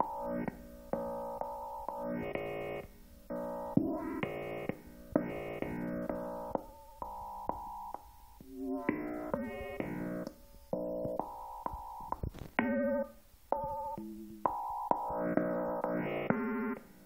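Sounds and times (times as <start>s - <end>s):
synthesizer test notes: 0.0s - 16.9s.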